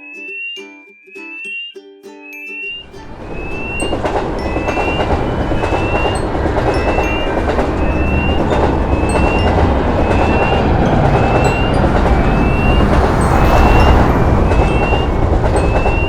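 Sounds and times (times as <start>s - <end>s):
crossing warning beeps: 0.0s - 16.0s
train rumbling and clattering: 2.7s - 16.0s.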